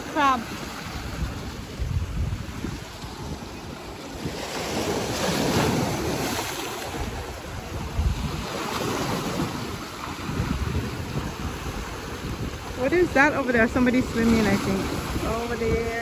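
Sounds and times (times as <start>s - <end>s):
ocean wave washing in: 0.0s - 16.0s
wind buffeting microphone: 0.0s - 16.0s.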